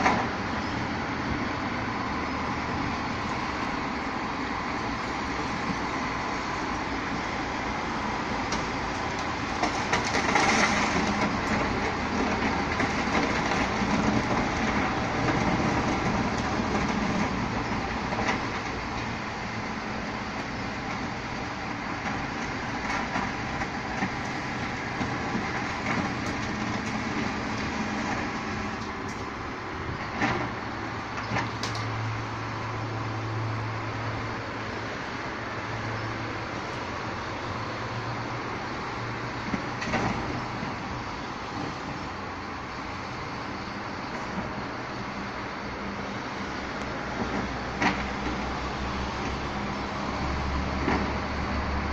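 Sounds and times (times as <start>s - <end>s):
garbage truck engine running: 0.0s - 51.9s.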